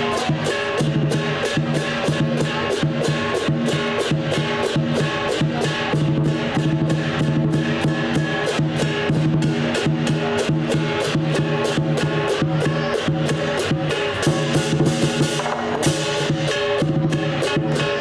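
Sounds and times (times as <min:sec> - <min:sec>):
cymbals clashing: 0:00.0 - 0:18.0
drum beats: 0:00.0 - 0:18.0.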